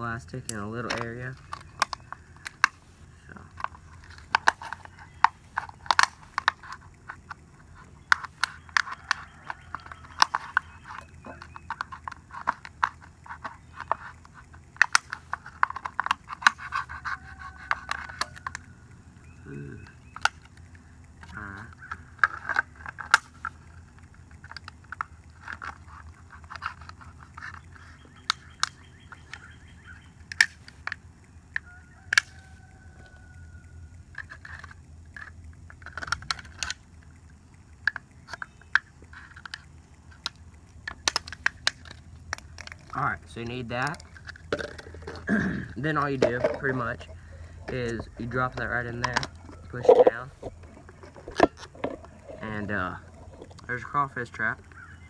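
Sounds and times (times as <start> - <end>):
plastic crackling and clicking: 0.4 - 55.0.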